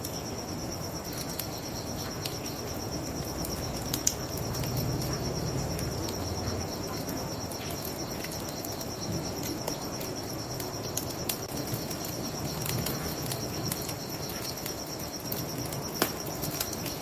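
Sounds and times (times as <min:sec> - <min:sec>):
crickets chirping: 0:00.0 - 0:17.0
wood fire crackling and popping: 0:00.0 - 0:17.0
low rumble of flames and water: 0:00.3 - 0:17.0.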